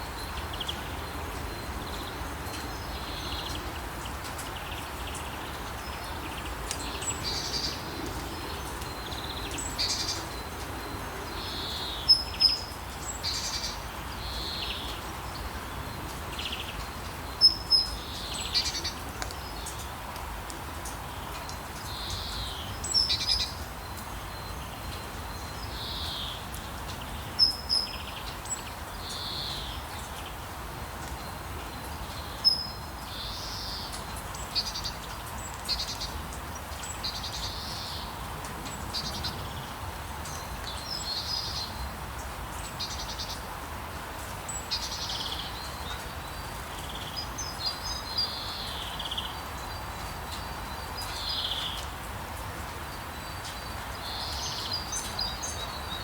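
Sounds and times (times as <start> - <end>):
light rain hiss: 0.0 - 56.0
songbirds chirping and trilling: 0.0 - 56.0.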